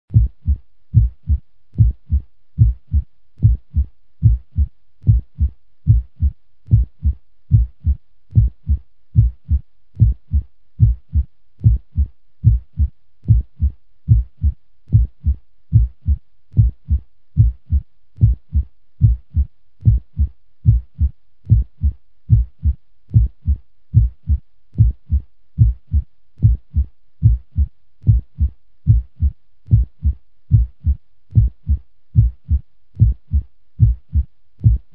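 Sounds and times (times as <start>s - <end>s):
heartbeat thumping: 0.1s - 34.9s.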